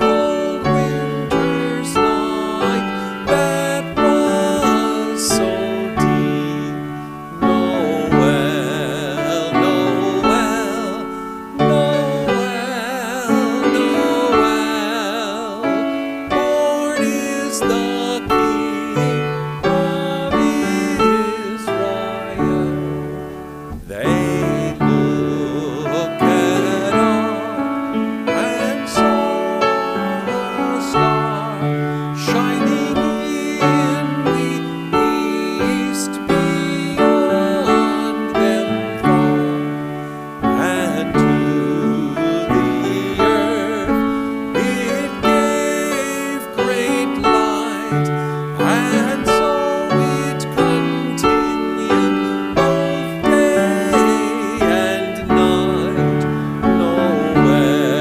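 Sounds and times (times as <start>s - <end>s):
congregation singing a hymn: 0.0s - 58.0s
piano accompaniment: 0.0s - 58.0s.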